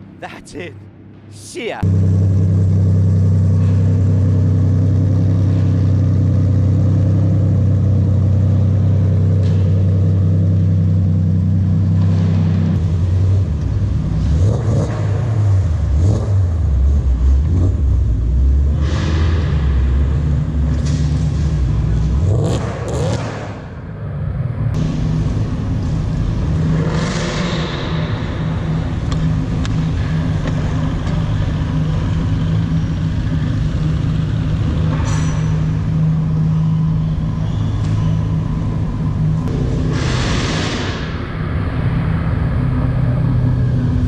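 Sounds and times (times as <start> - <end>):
vehicle engine running: 0.9 - 44.0.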